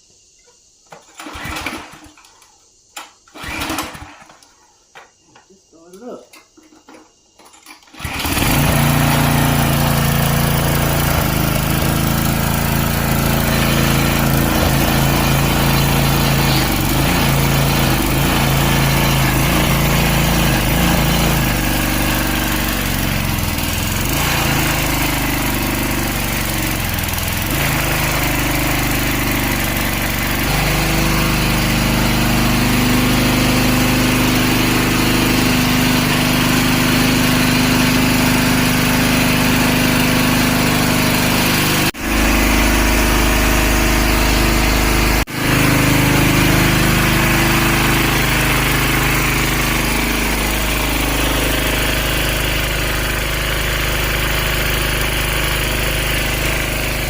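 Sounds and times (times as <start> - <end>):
pressure washer engine running: 1.1 - 2.1, 3.4 - 4.3, 7.8 - 57.0.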